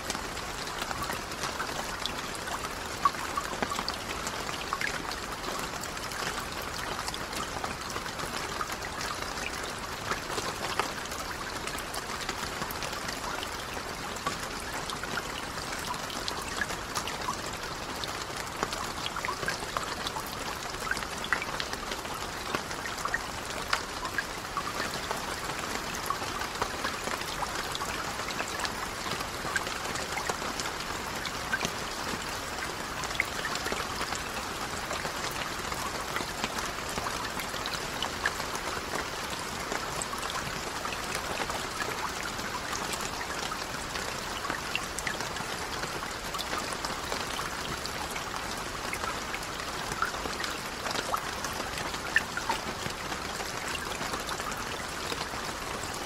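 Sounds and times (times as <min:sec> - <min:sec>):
rain falling on lake: 0:00.0 - 0:56.0.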